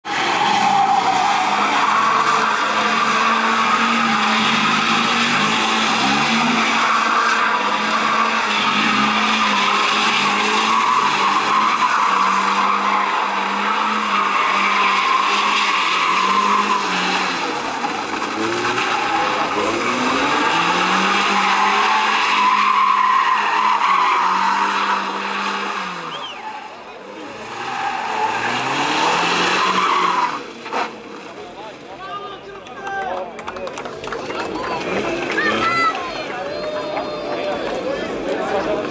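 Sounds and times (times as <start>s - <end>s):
car engine revving: 0.1s - 31.5s.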